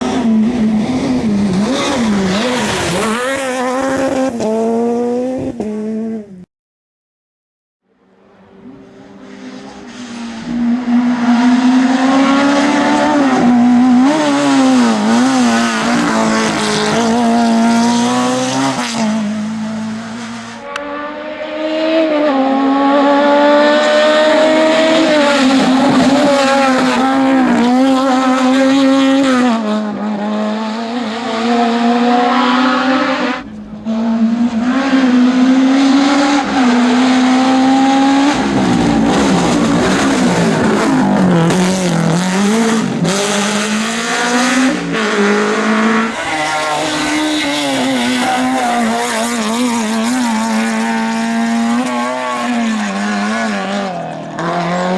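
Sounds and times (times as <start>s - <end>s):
car engine revving hard: 9.4s - 54.9s.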